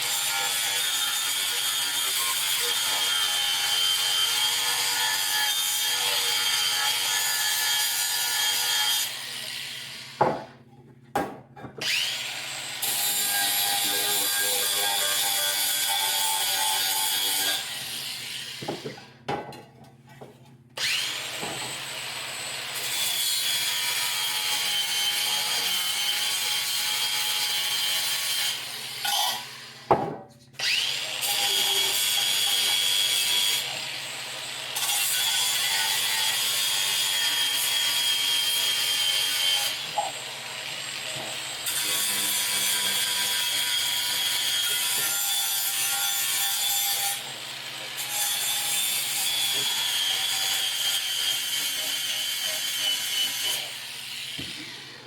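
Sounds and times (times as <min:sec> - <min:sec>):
power tool grinding metal: 0:00.0 - 0:10.6, 0:11.7 - 0:19.2, 0:20.8 - 0:30.0, 0:30.6 - 0:55.0.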